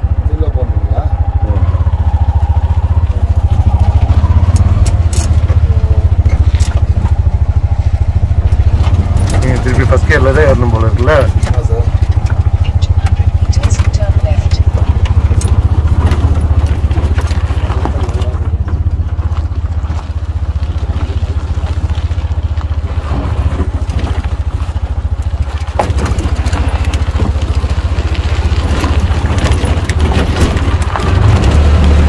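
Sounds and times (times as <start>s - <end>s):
car engine drone: 0.0s - 32.0s
car rattling over ruts: 0.0s - 32.0s.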